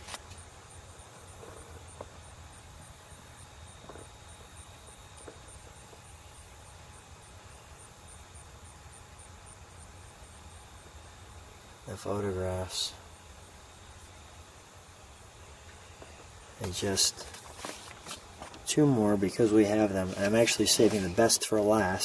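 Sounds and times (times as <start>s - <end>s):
low hum and hiss: 0.0s - 22.0s.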